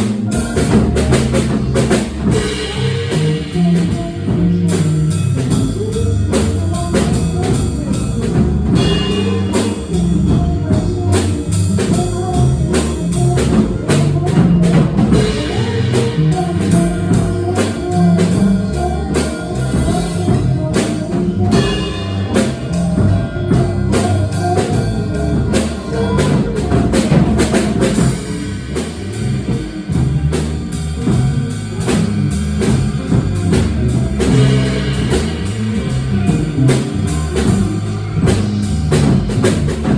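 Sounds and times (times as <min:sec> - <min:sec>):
drum kit: 0:00.0 - 0:39.9
jazz band playing: 0:00.0 - 0:39.9
walking electric bass line: 0:00.0 - 0:39.9.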